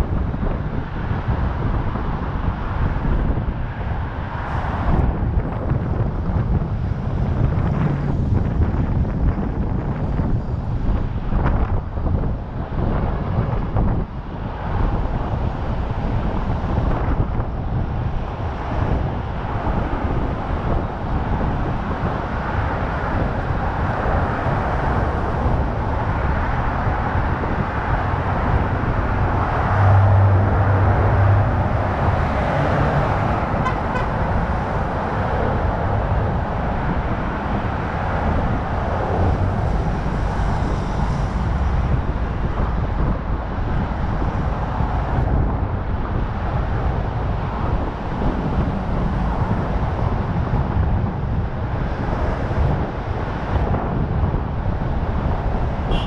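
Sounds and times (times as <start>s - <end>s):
surrounding traffic: 0.0s - 56.0s
wind and road noise: 0.0s - 56.0s.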